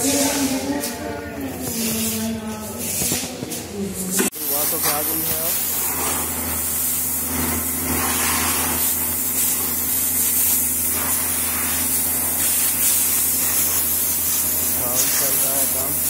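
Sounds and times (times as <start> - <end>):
high-pressure water jet hissing: 0.0 - 1.0, 4.0 - 16.0
pressure washer machine humming: 0.0 - 16.0.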